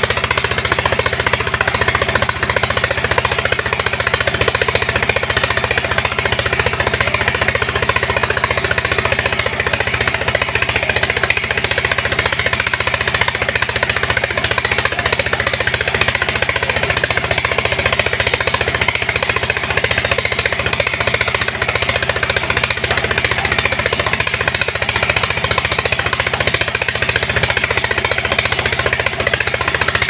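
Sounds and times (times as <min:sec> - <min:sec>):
pump engine pulsing: 0:00.0 - 0:30.0.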